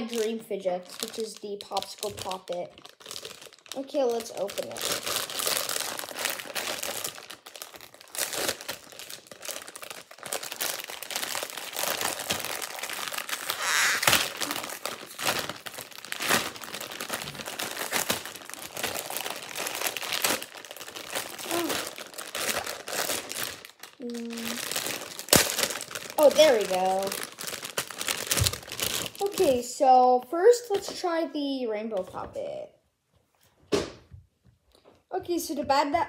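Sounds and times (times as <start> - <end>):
plastic bag crinkling: 0.0 - 29.8.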